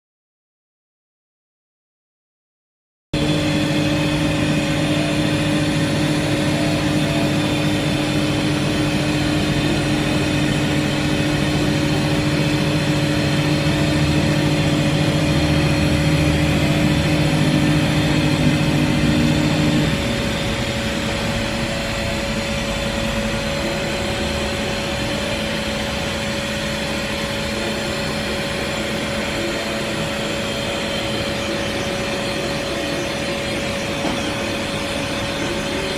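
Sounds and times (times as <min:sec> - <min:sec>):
machine hum: 0:03.2 - 0:35.9
steady machine whine: 0:03.2 - 0:35.9.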